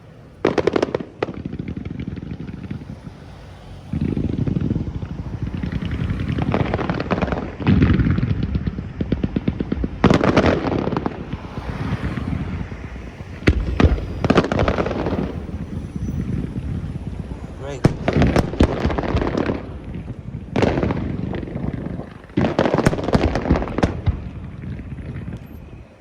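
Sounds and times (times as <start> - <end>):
sharp firework bangs: 0.0 - 25.9
fireworks booming and crackling: 0.0 - 26.0.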